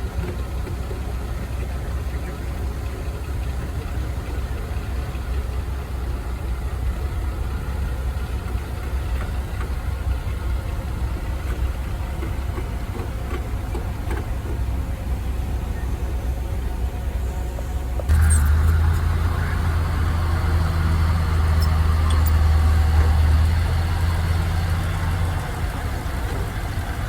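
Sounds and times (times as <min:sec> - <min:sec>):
heavy machine engine idling: 0:00.0 - 0:27.0.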